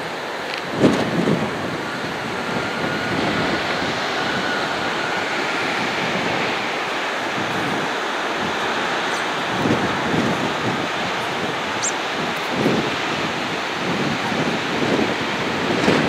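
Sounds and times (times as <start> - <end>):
faint thin whine: 0.0 - 16.0
strong wind on microphone: 0.0 - 16.0.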